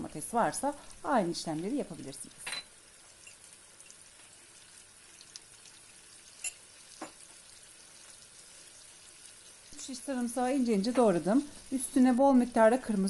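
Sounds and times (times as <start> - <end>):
tomato slices sizzling in butter: 0.0 - 13.0.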